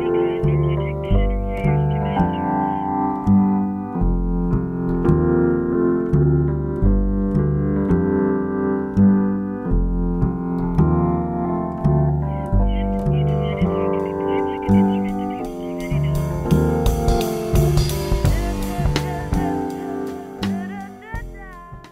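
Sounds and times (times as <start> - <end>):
instrumental piano music: 0.0 - 21.9.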